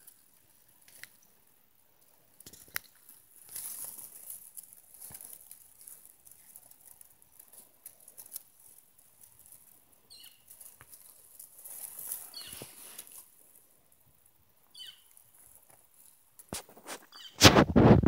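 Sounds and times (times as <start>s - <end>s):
dry grass rustling and crackling: 0.0s - 18.0s.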